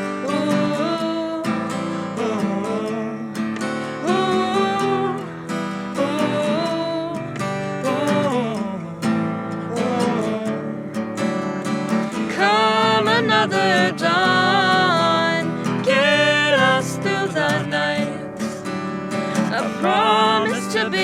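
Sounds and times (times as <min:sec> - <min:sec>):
person singing wordlessly: 0:00.0 - 0:03.4, 0:04.0 - 0:11.0, 0:12.2 - 0:18.7, 0:19.3 - 0:21.0
acoustic guitar strumming: 0:00.0 - 0:21.0.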